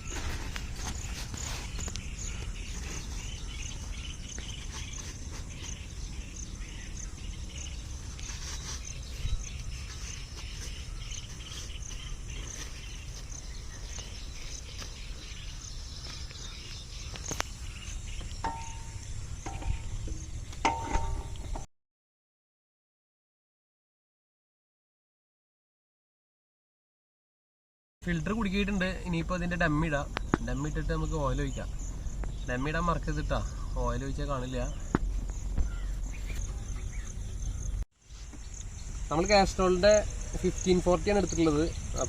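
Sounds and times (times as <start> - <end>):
insects chirping: 0.0 - 21.6, 28.1 - 42.0.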